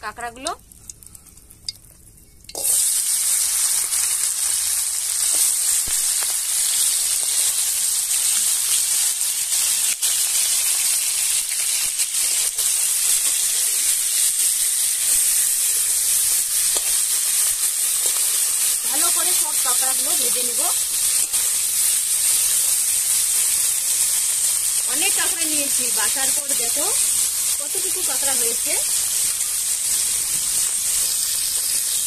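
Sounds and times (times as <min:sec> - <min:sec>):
crab frying in hot oil: 0:00.0 - 0:32.0.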